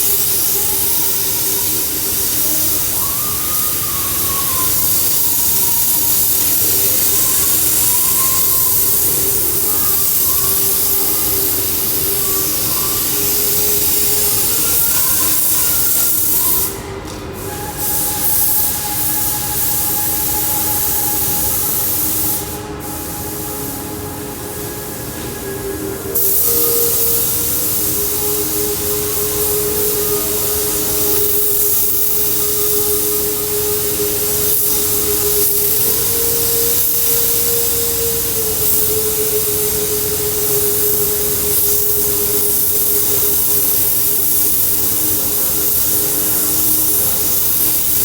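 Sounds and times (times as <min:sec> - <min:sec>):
hot-air welding gun hissing: 0:00.0 - 0:48.0.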